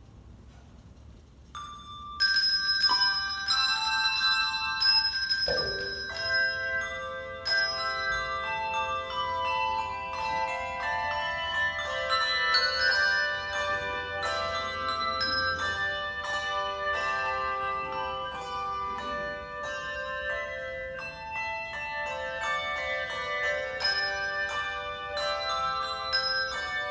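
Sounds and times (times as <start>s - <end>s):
handbell choir playing: 1.6s - 26.9s.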